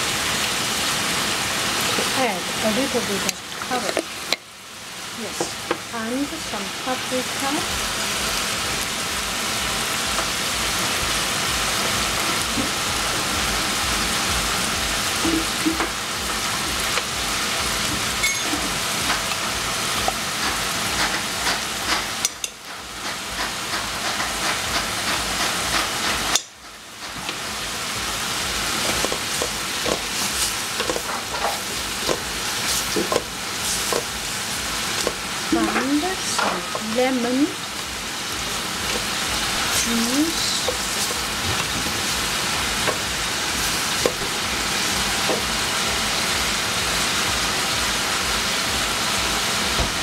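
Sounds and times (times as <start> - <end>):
food sizzling in a pot: 0.0 - 50.0.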